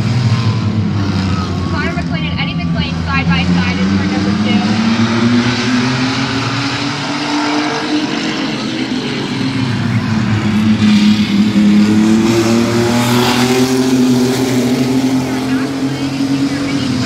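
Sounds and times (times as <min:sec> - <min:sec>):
racing truck engines: 0:00.0 - 0:17.0.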